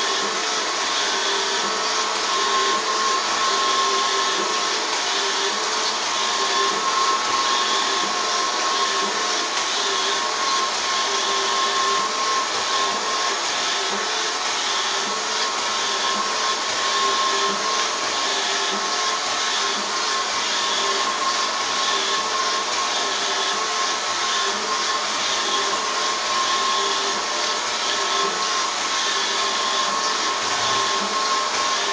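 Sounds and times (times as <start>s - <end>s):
robot vacuum cleaner motor whir: 0.0s - 31.9s.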